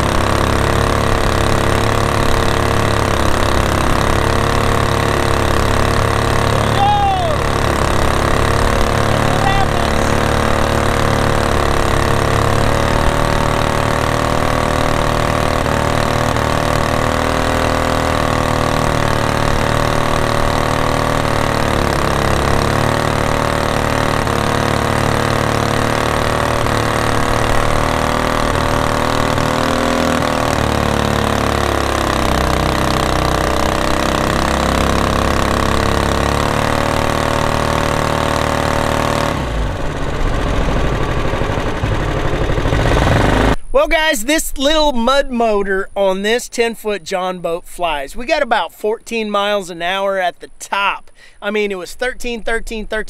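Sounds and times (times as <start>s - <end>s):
boat engine running: 0.0s - 45.2s.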